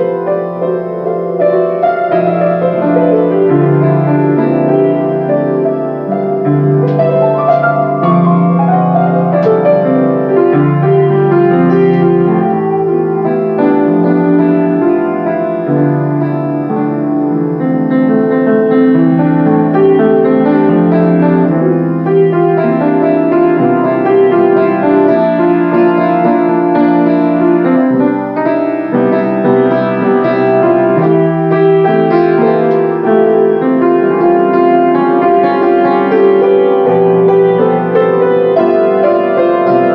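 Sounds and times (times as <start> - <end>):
solo piano melody: 0.0 - 39.9.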